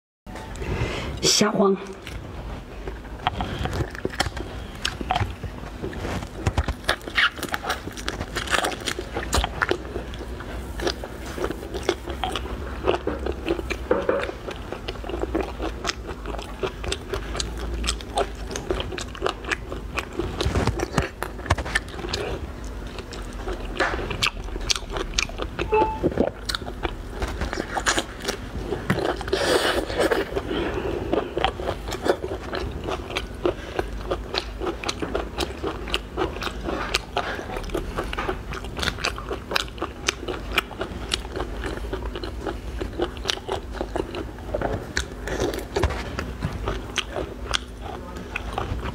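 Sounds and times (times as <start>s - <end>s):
chewing: 1.8s - 48.9s.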